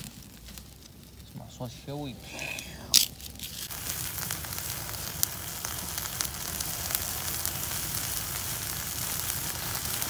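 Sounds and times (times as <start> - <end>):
reeds burning with crackles: 0.0 - 10.0.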